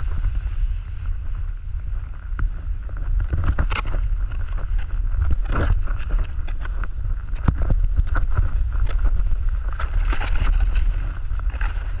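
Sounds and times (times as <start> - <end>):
snowboard scraping over snow: 0.0 - 12.0
wind buffeting microphone: 0.0 - 12.0.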